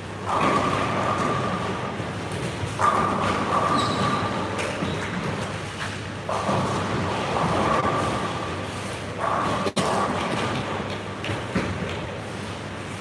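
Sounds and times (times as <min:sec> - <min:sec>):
bowling balls rolling: 0:00.0 - 0:12.7.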